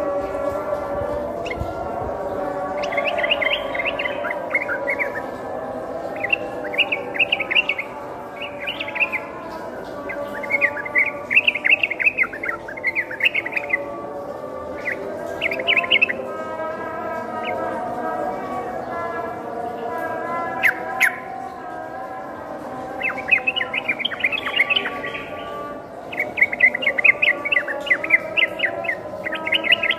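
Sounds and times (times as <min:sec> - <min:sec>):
bird singing: 0:00.0 - 0:29.9.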